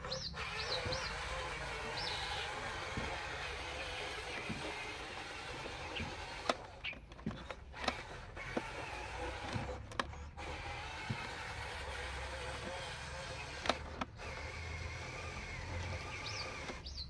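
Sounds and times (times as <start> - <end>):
small electric motor whirring: 0.0 - 17.0.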